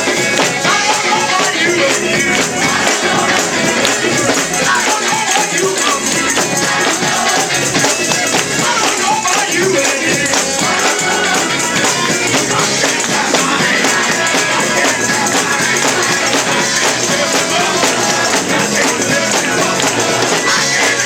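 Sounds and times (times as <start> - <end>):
church praise band music: 0.0 - 21.0
tambourine shaken and struck: 0.0 - 21.0.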